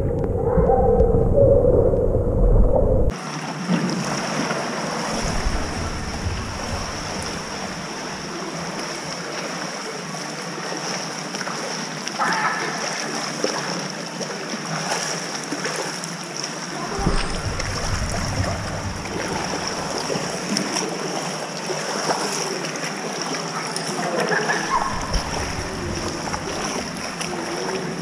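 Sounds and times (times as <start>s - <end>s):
swimmer splashing: 3.1s - 28.0s
water lapping and sloshing: 3.1s - 28.0s.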